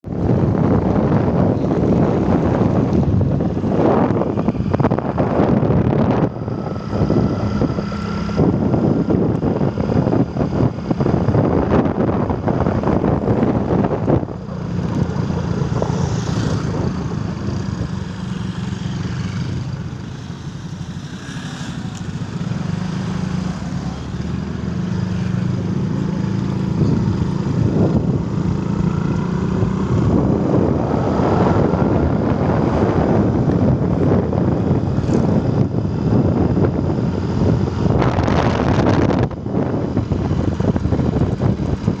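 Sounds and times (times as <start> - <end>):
storm wind buffeting microphone: 0.0 - 42.0.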